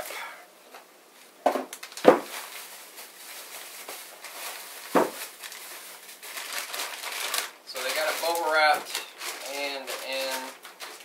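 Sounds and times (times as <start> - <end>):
plastic bag crinkling: 1.7 - 11.0.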